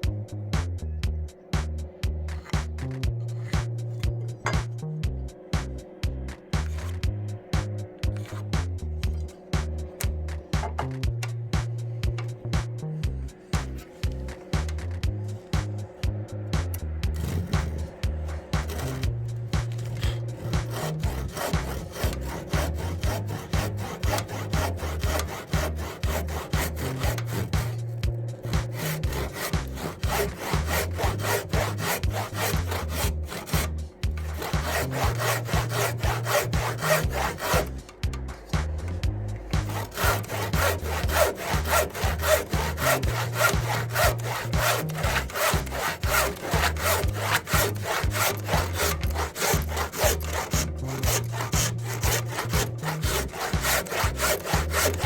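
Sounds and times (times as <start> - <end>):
hand saw cutting wood: 2.3 - 4.8, 6.6 - 15.9, 16.6 - 55.0.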